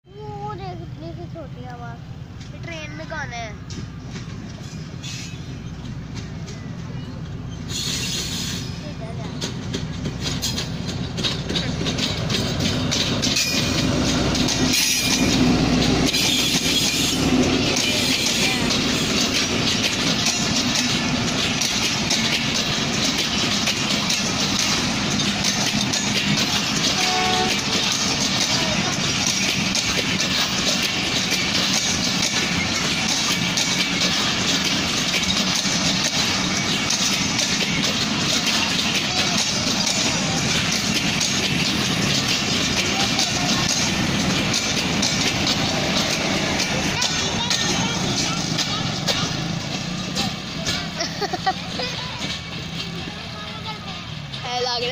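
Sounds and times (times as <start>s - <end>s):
train wheels clattering over rail joints: 0.1s - 54.9s.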